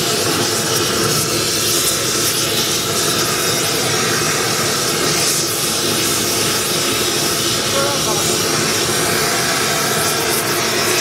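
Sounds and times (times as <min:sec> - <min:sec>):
torch flame rushing: 0:00.0 - 0:11.0.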